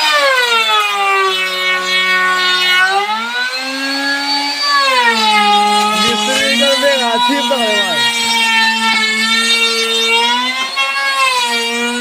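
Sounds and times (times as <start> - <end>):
electric drill whining in wood: 0.0 - 12.0.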